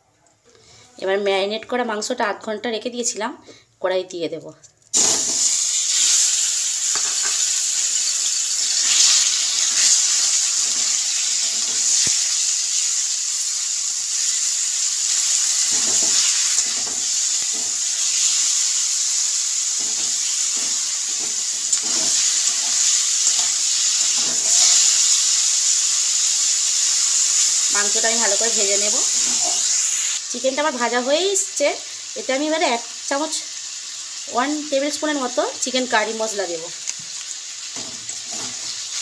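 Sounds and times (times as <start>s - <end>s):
chicken sizzling in oil: 4.9s - 39.0s.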